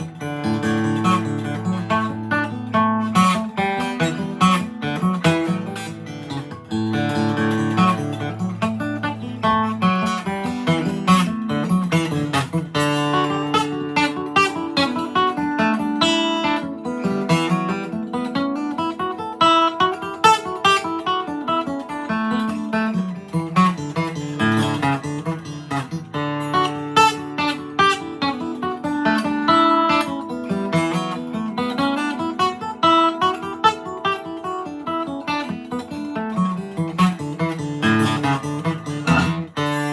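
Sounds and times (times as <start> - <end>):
acoustic guitar playing fast reel: 0.0 - 39.9.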